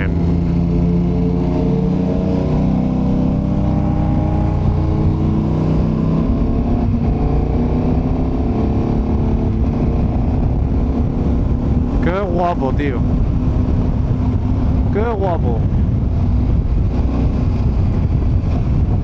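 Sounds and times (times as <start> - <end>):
motorcycle engine running: 0.0 - 19.0
road noise: 0.0 - 19.0
wind noise: 0.0 - 19.0.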